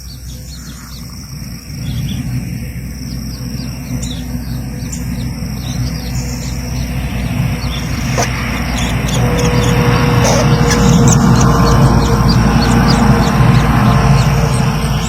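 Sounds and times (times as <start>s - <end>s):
steady high insect drone: 0.0s - 15.0s
loud low rumble: 1.2s - 15.0s.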